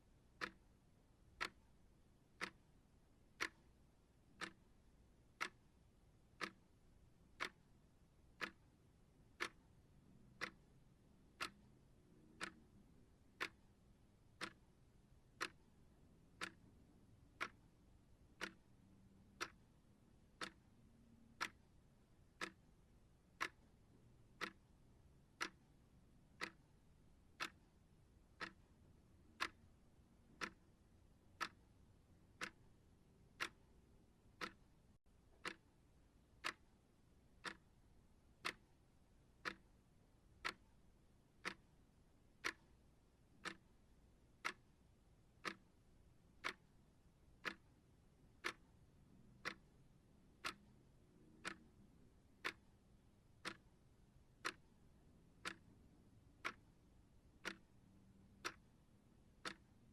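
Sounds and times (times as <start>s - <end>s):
timer ticking: 0.3s - 35.8s, 36.4s - 59.9s.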